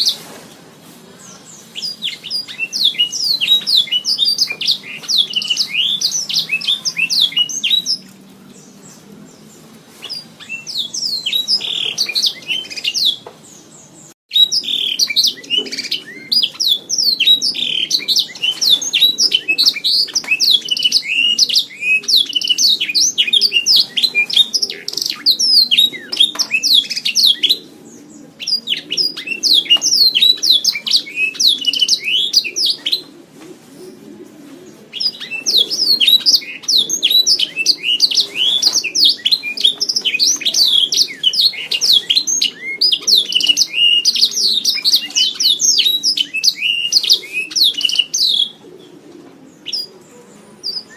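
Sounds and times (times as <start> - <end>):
canary singing: 1.4 - 33.1, 34.9 - 50.9.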